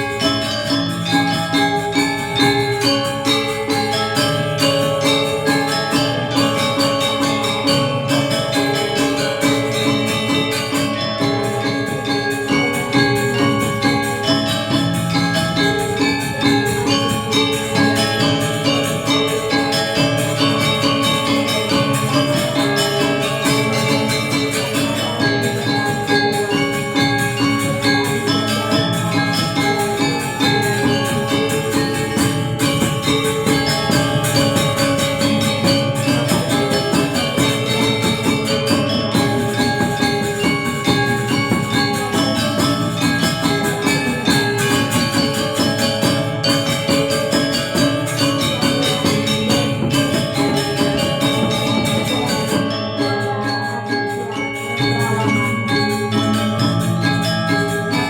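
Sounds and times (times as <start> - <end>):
gamelan ensemble playing: 0.0 - 58.0.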